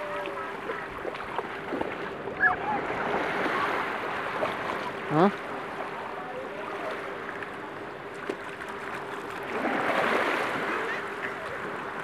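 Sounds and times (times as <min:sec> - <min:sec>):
surf washing over sand: 0:00.0 - 0:12.0.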